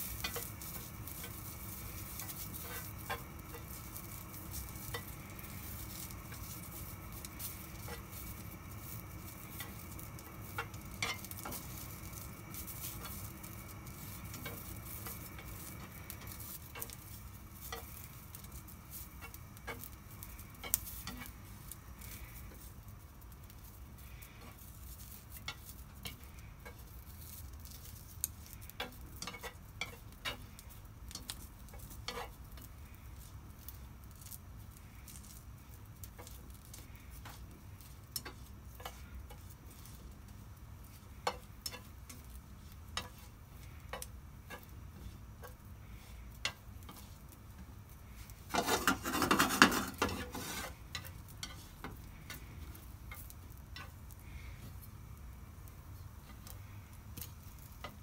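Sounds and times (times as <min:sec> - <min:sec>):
chopsticks tapping a pan: 0:00.0 - 0:34.4, 0:35.1 - 0:47.7, 0:48.5 - 0:54.1, 0:56.2 - 0:58.0
sausages sizzling in a pan: 0:00.0 - 0:58.0.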